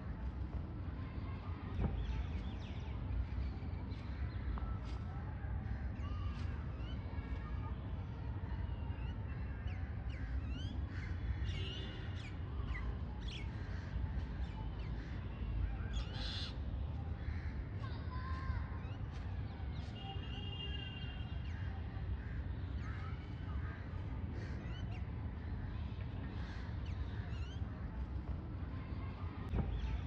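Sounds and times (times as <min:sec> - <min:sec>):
constant low rumble: 0:00.0 - 0:20.5, 0:21.1 - 0:30.0
flock of birds chirping: 0:01.7 - 0:30.0.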